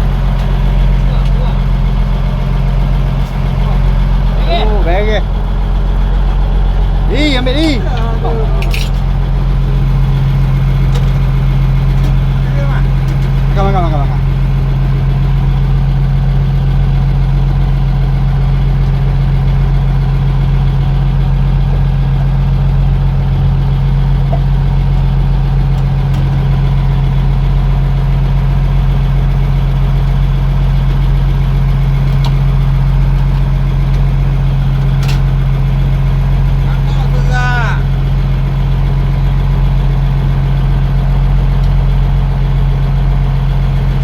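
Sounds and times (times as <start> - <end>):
boat engine idling: 0.0 - 44.0.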